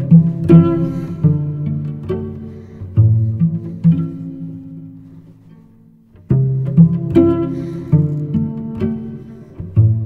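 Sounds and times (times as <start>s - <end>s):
plucked string music over held tones: 0.0s - 10.0s.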